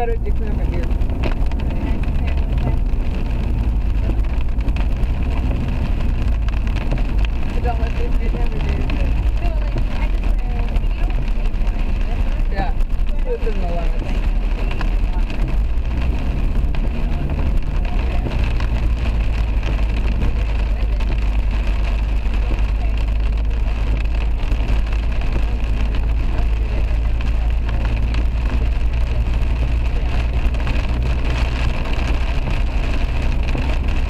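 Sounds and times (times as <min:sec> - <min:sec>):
engine and road rumble: 0:00.0 - 0:34.0
tyres hissing on wet road: 0:00.0 - 0:34.0.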